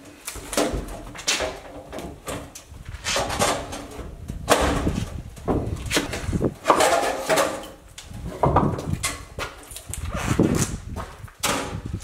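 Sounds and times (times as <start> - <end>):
wooden board knocking and scraping: 0.4 - 12.0.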